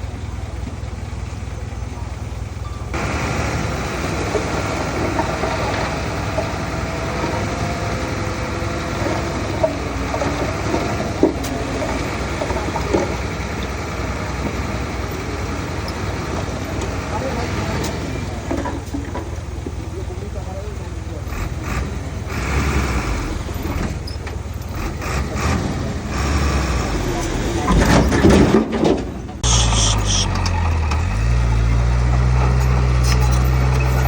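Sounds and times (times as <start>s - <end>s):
diesel engine of heavy machinery: 0.0s - 34.0s.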